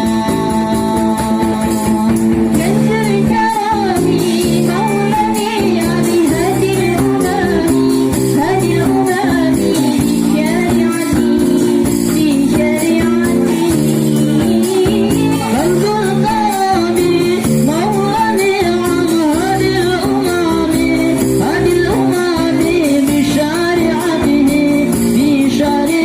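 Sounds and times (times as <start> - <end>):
instrumental accompaniment: 0.0 - 26.0
person singing devotional song: 0.0 - 26.0
steady percussion beat: 0.0 - 26.0.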